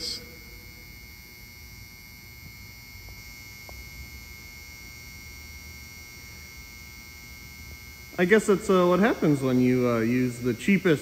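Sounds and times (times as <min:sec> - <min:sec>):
lamp ballast humming: 0:00.0 - 0:11.0.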